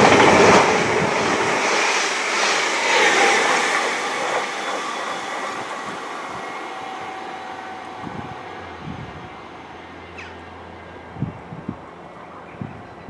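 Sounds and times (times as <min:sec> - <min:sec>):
train passing by: 0:00.0 - 0:13.0.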